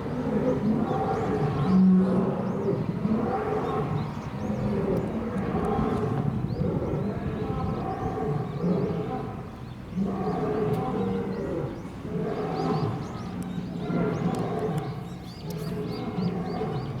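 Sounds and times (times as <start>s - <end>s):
lion roaring: 0.2s - 17.0s.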